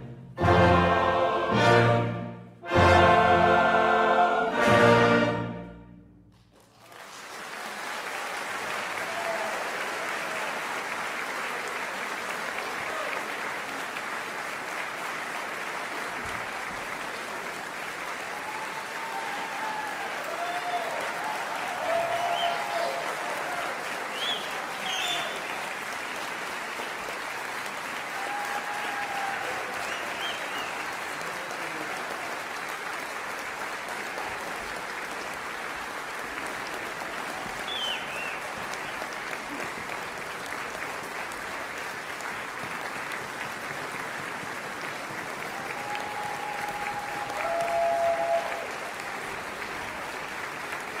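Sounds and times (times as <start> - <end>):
audience applauding: 6.4 - 51.0
audience cheering: 6.6 - 14.0, 15.7 - 51.0.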